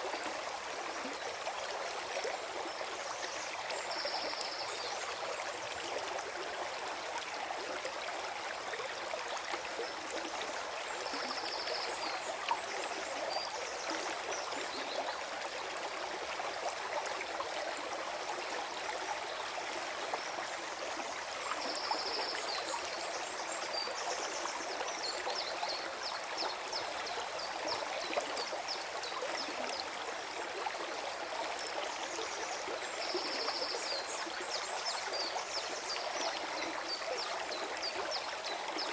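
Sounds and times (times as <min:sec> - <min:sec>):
stream gurgling: 0:00.0 - 0:38.9.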